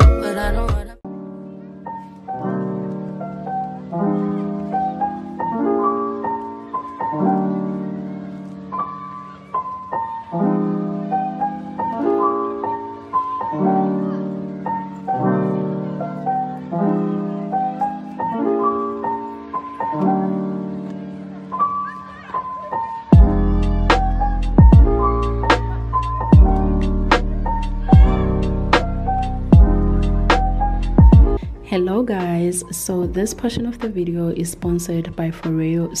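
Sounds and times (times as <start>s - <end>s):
slow piano chords with melody: 0.0s - 33.2s.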